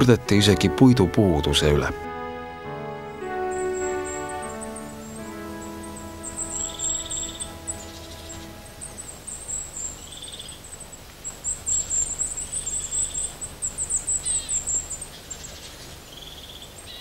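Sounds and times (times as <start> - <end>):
small songbirds chirping: 0.0 - 17.0
buzzy bird trill: 2.8 - 17.0.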